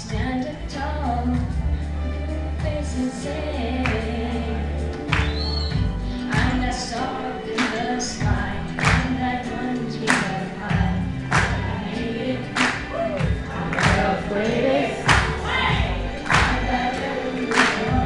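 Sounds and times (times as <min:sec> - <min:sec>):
song with bass and beat: 0:00.0 - 0:18.0.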